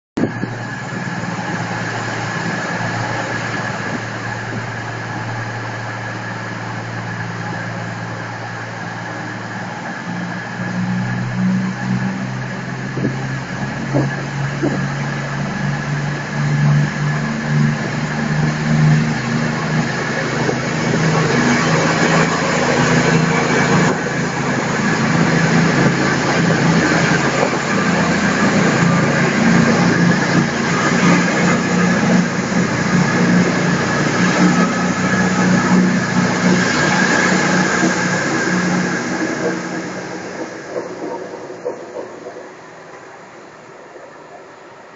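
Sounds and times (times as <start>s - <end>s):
train diesel engines idling: 0.2s - 44.9s.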